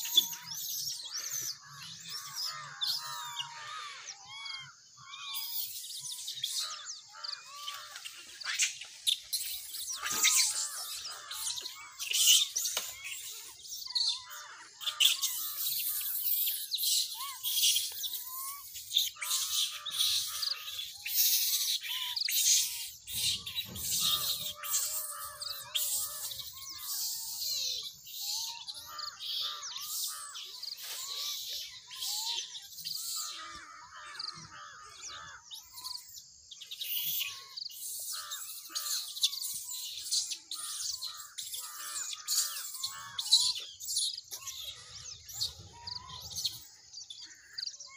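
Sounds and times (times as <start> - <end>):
many birds chirping: 0.0 - 47.9.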